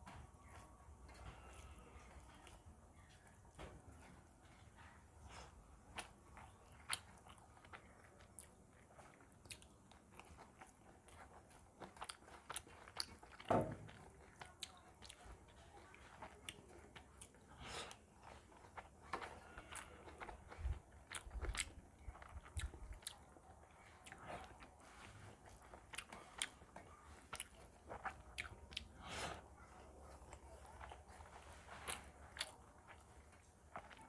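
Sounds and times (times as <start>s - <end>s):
chewing sounds: 0.1s - 34.0s.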